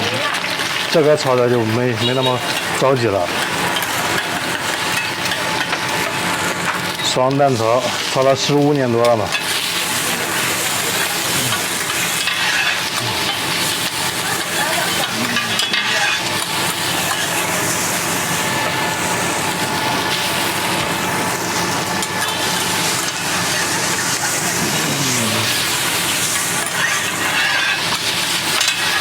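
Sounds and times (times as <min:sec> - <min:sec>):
food sizzling on a griddle: 0:00.0 - 0:29.0
stirring on a griddle: 0:00.0 - 0:29.0.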